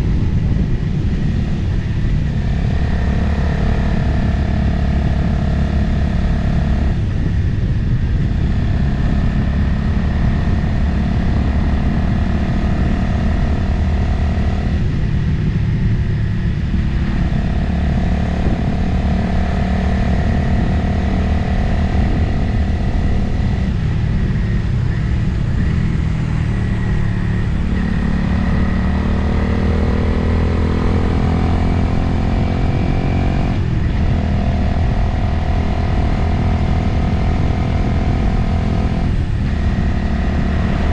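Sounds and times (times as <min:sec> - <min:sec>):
motorcycle engine riding: 0:00.0 - 0:40.9
wind noise: 0:00.0 - 0:40.9.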